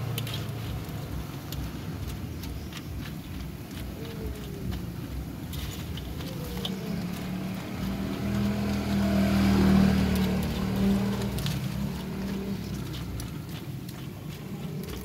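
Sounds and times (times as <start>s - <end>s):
vehicle engine drone passing: 0.0s - 15.0s.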